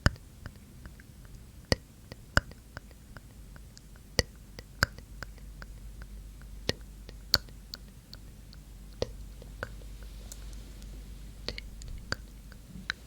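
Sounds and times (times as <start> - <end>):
wet tongue and lip clicks: 0.0 - 13.0.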